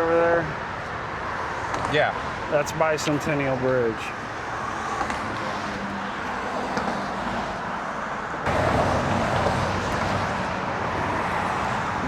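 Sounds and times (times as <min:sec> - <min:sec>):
road traffic rushing past: 0:00.0 - 0:12.0.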